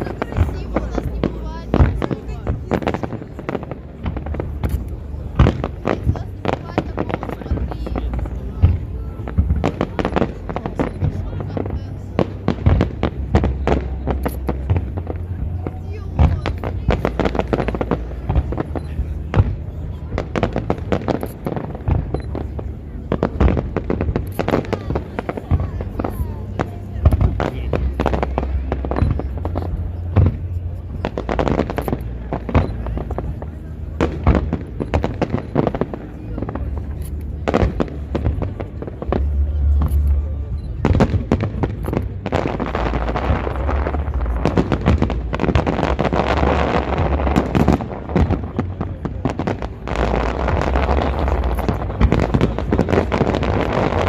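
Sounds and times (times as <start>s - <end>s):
fireworks bangs and crackles: 0.0s - 54.0s
low rumble: 0.0s - 54.0s.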